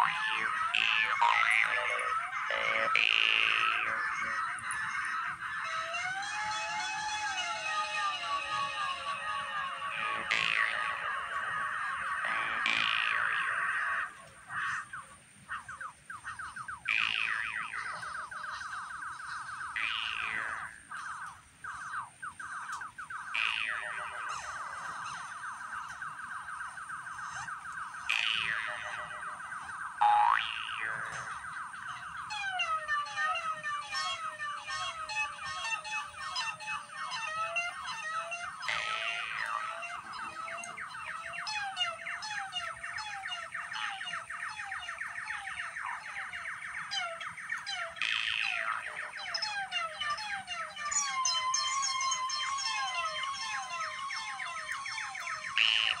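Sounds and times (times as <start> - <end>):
fast chirping electronic pulses: 0.0 - 56.0
warbling synthesizer tone: 0.0 - 56.0.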